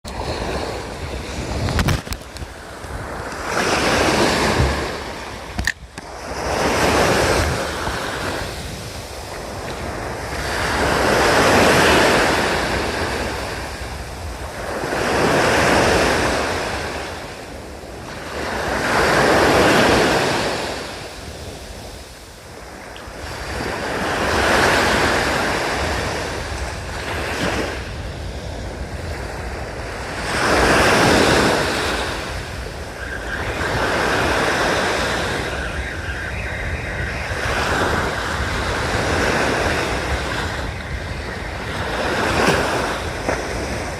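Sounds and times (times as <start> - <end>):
waves breaking on beach: 0.0 - 43.9
wind on microphone: 0.0 - 43.9.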